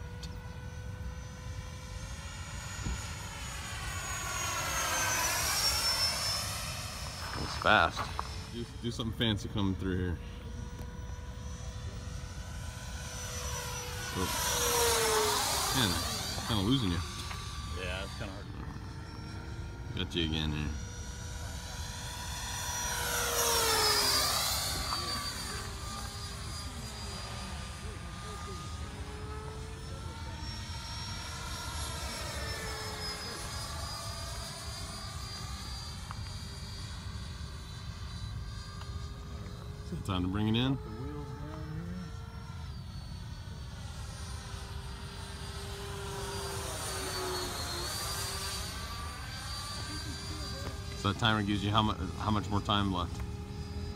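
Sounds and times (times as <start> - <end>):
electric ducted fans whining: 0.0 - 53.9.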